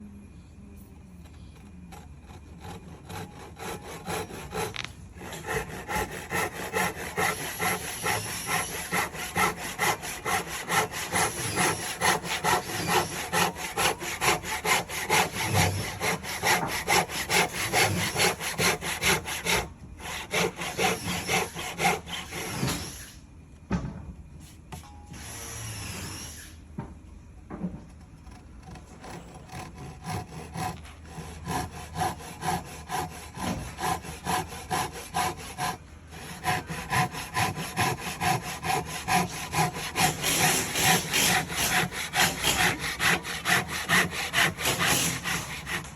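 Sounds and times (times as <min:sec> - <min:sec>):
hand saw cutting timber: 0:01.9 - 0:23.1, 0:28.2 - 0:45.9.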